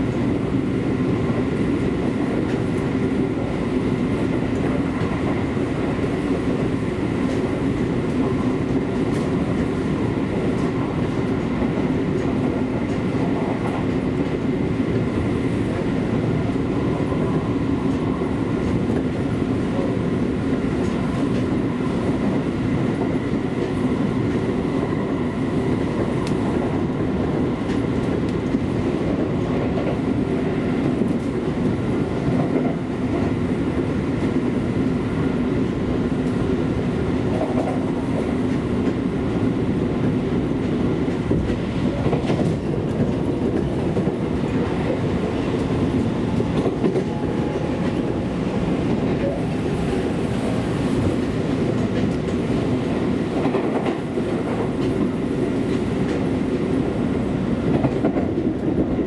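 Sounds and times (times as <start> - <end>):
steady train hum: 0.0 - 59.0
train wheels rumbling on rail: 0.0 - 59.0.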